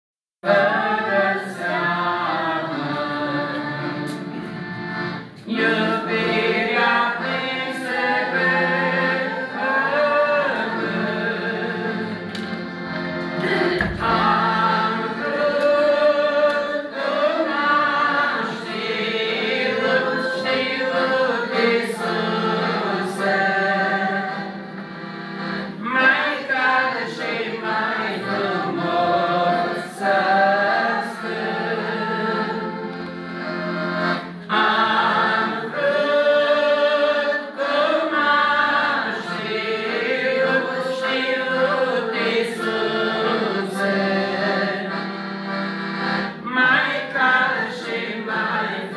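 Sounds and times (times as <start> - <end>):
accordion chords: 0.4 - 48.9.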